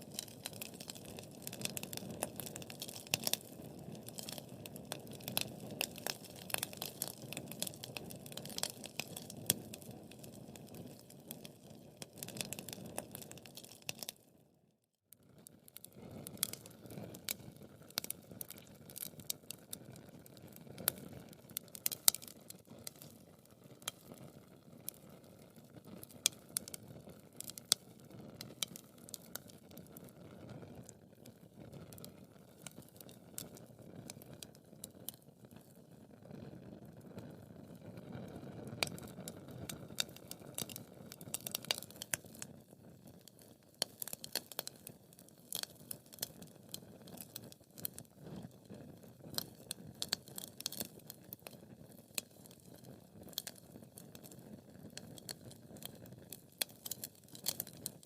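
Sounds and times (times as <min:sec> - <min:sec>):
burning wood crackling and popping: 0:00.0 - 0:14.2, 0:15.4 - 0:58.0.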